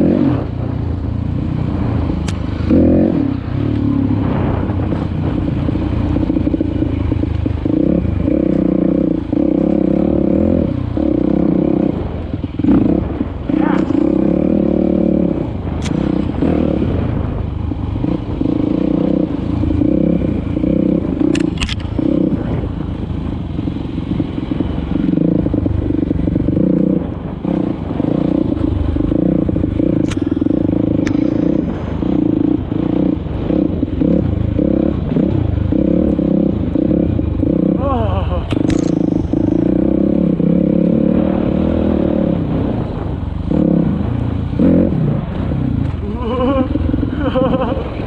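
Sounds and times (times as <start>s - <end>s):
dirt bike engine revving: 0.0s - 22.7s, 23.3s - 48.0s.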